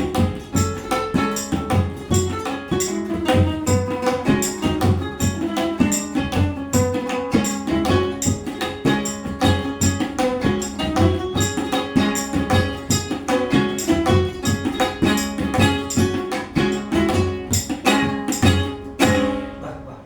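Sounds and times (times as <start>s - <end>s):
tabla drumming: 0.0s - 19.8s
ukulele melody: 0.0s - 20.0s.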